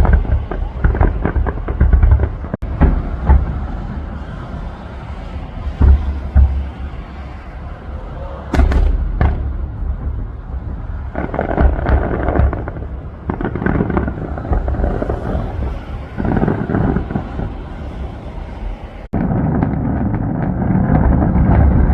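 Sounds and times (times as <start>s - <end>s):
firework booms: 0.0s - 4.6s, 5.5s - 18.5s, 19.1s - 21.9s
firework crackling: 0.0s - 21.9s
firework sharp bangs: 0.0s - 21.9s.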